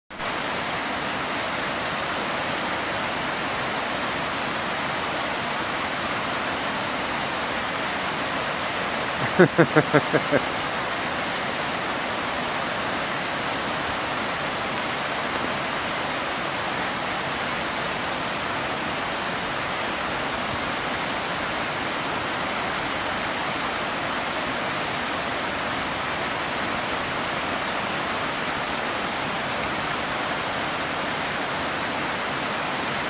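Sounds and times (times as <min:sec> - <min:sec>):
river rushing: 0:00.2 - 0:33.0.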